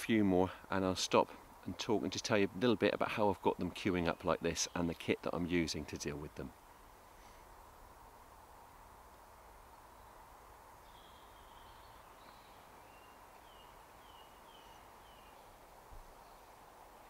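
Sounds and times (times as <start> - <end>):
woodland ambience: 0.0 - 17.0.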